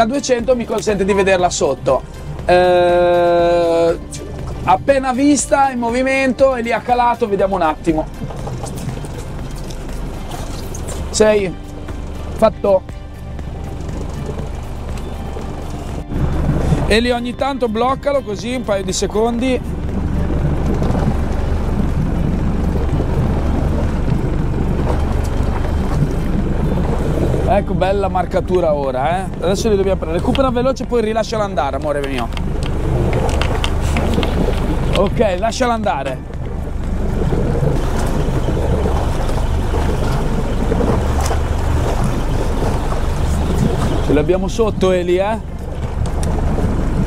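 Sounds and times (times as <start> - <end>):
boat engine rumble: 0.0 - 47.0
wind rushing over microphone: 0.0 - 47.0.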